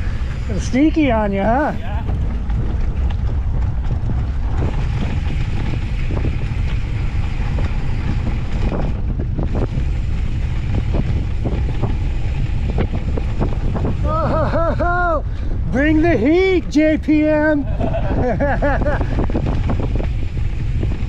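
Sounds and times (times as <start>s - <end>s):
tyre noise on dirt: 0.0s - 21.0s
wind buffeting microphone: 0.0s - 21.0s.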